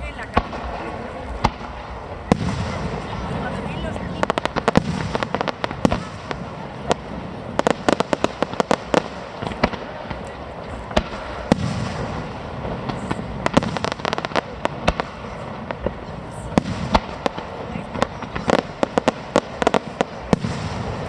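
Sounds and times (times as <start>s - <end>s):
fireworks crackling bangs: 0.0s - 21.0s
fireworks display rumble: 0.0s - 21.0s.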